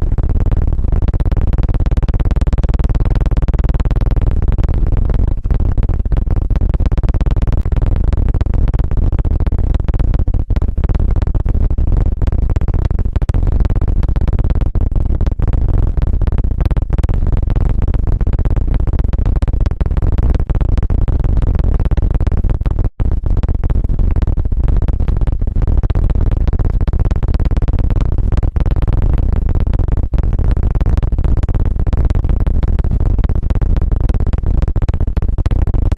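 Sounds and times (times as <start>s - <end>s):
rapid rubbing on microphone: 0.0s - 35.9s.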